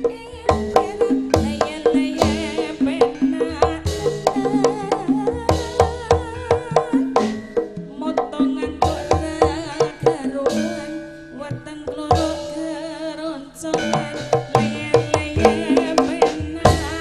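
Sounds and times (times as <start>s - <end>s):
hand drum strokes: 0.0s - 11.1s, 13.8s - 17.0s
gamelan music: 0.0s - 17.0s
woman singing into microphone: 0.0s - 17.0s.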